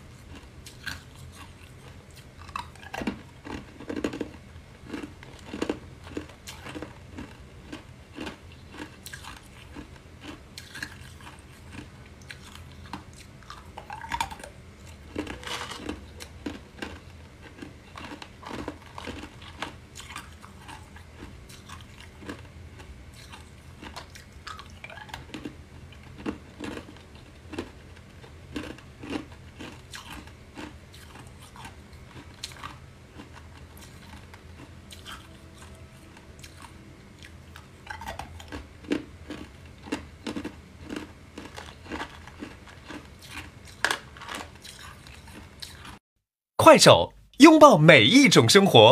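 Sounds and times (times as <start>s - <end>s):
ice cubes crunching when chewed: 0.1s - 35.8s, 36.4s - 46.0s.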